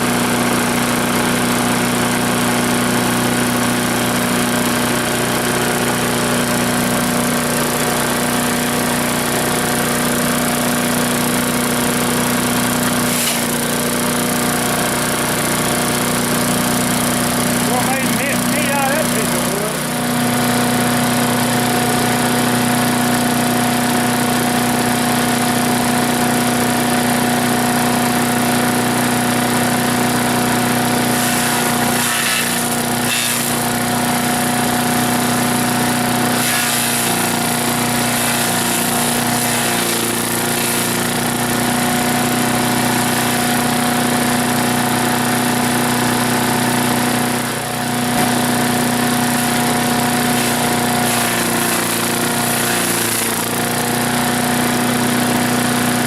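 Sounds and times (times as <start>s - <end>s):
wood chipper engine running: 0.0s - 56.0s.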